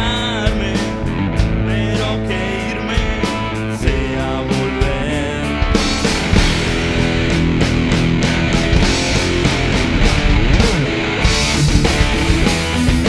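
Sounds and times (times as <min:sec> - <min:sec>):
electric guitar: 0:00.0 - 0:13.0
rock band playing: 0:00.0 - 0:13.0.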